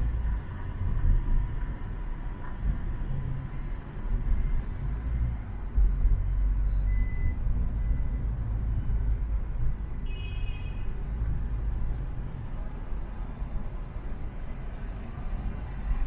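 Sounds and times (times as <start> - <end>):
car driving in traffic: 0.0 - 16.0.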